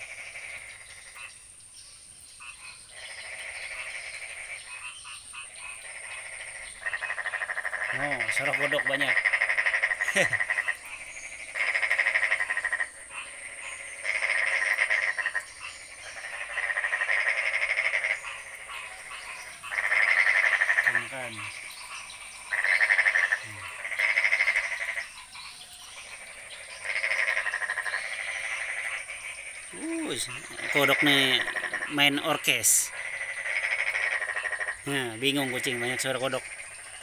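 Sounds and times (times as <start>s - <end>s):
frogs calling in trills: 0.0s - 37.0s.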